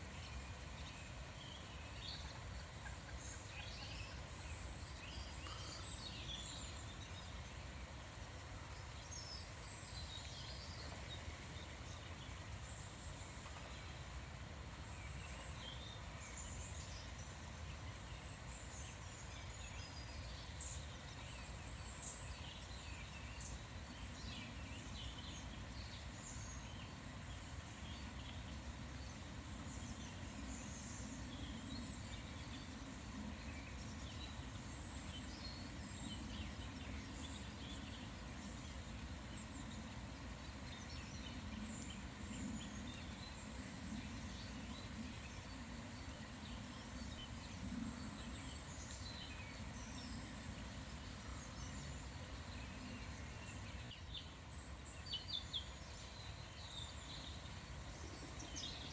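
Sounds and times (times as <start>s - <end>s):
steady outdoor hiss: 0.0s - 58.9s.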